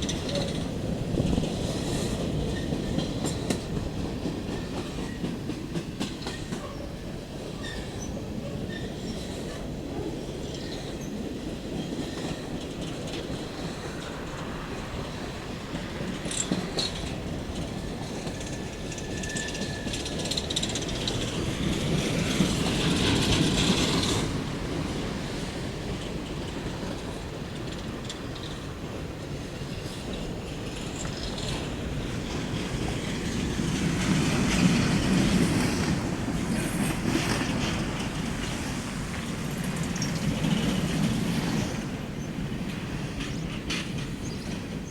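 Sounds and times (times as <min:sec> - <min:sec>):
train cars rumbling on rails: 0:00.0 - 0:44.9
wheels clicking over rail joints: 0:00.0 - 0:44.9.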